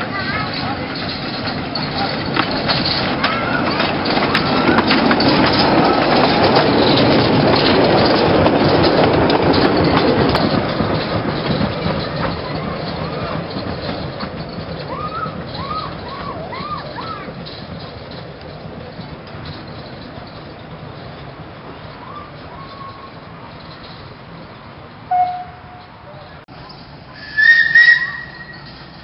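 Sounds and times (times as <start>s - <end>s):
steam locomotive running: 0.0s - 29.0s
wheels clicking over rail joints: 0.0s - 29.0s.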